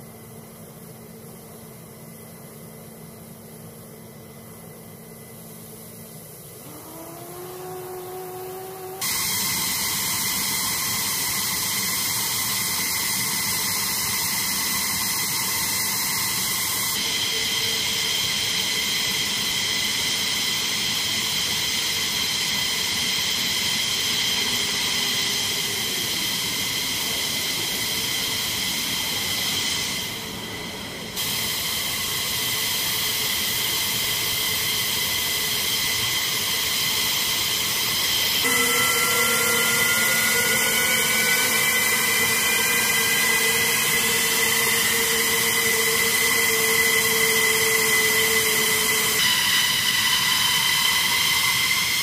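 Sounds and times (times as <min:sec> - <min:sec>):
jet engines running: 0:06.3 - 0:52.0.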